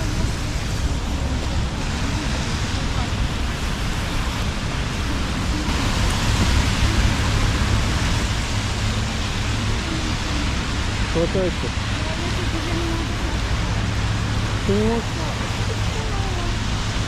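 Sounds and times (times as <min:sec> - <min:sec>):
deep rumble: 0:00.0 - 0:17.0
rain hiss: 0:00.0 - 0:17.0
traffic on wet street: 0:00.0 - 0:17.0.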